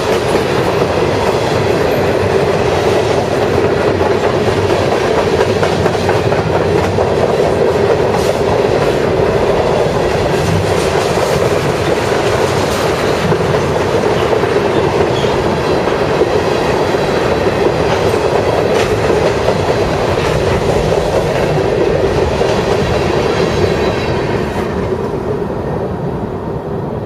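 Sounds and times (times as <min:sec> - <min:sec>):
freight train wheels rolling: 0:00.0 - 0:27.0.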